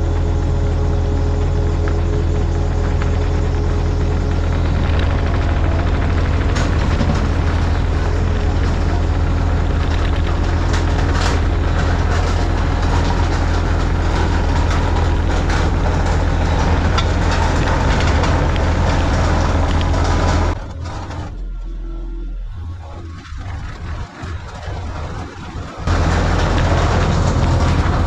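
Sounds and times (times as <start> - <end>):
excavator engine running: 0.0 - 28.0
rattling and clanking: 1.4 - 28.0.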